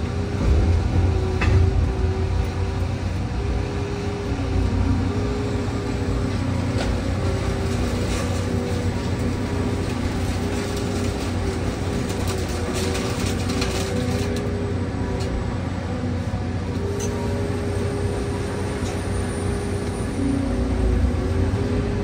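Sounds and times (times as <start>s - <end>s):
diesel engine and hydraulics drone: 0.0s - 22.0s.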